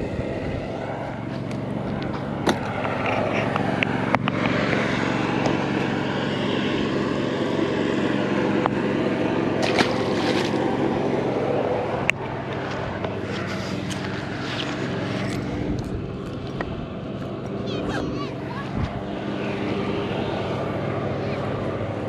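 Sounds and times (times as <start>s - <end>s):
steady motor drone: 0.0s - 22.0s.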